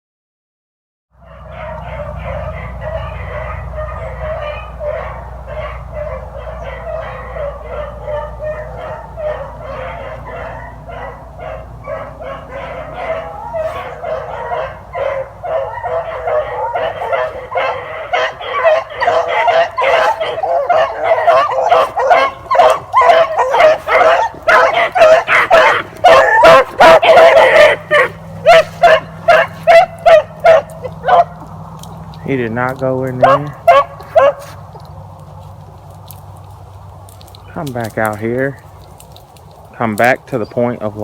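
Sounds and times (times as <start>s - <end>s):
hounds barking: 1.2s - 36.2s.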